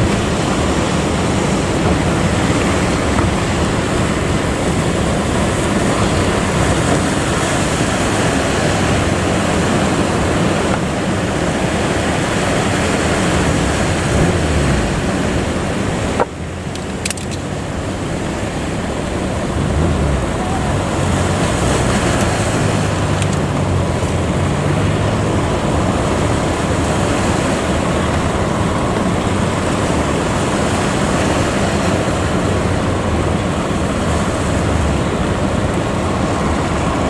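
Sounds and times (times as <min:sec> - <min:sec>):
sea waves: 0:00.0 - 0:37.0
strong wind: 0:00.0 - 0:37.0.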